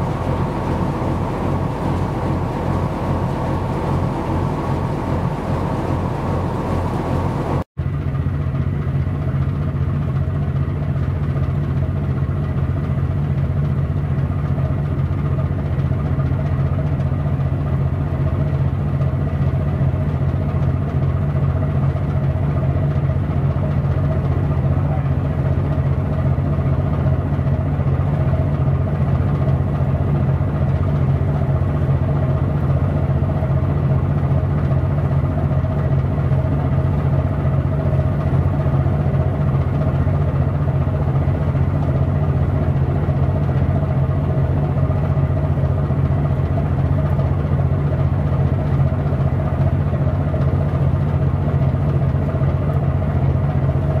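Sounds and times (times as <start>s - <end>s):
large engine humming steadily: 0.0s - 54.0s.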